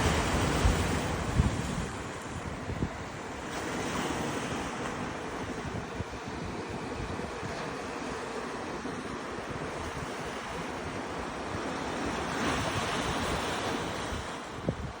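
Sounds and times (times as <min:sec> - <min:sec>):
ocean waves washing onto beach: 0:00.0 - 0:15.0
wind rumbling on microphone: 0:00.0 - 0:15.0.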